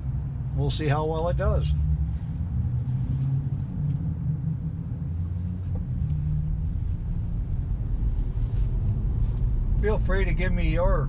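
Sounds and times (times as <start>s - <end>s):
road rumble and tyre noise: 0.0s - 11.0s.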